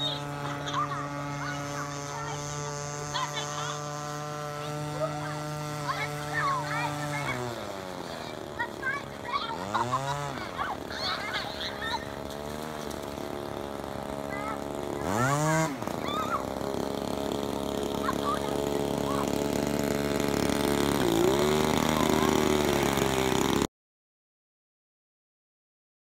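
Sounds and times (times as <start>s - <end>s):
small two-stroke engine running: 0.0s - 23.7s.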